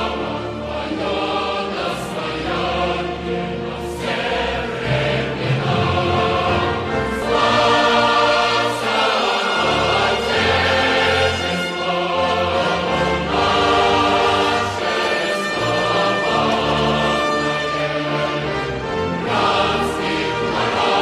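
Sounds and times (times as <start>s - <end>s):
choir singing with orchestra: 0.0s - 21.0s.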